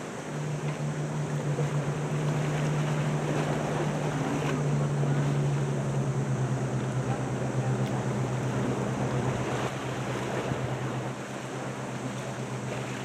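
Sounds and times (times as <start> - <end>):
low engine drone: 0.0 - 13.0
surf: 0.0 - 13.0
wind: 0.0 - 13.0.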